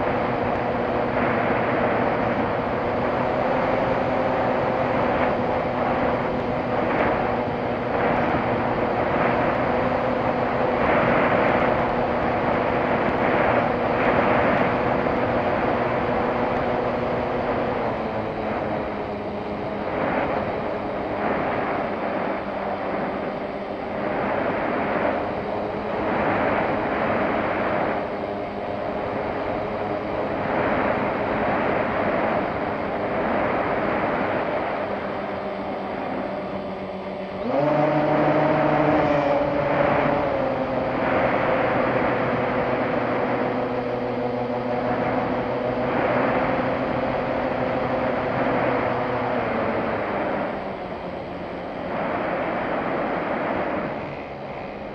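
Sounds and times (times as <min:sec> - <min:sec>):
small plane engine hum: 0:00.0 - 0:54.9
wind rush: 0:00.0 - 0:54.9.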